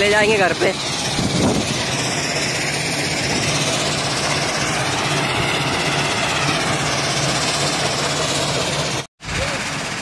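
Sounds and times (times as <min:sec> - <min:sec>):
diesel engine noise: 0:00.0 - 0:10.0
stone crusher mechanical drone: 0:00.0 - 0:10.0.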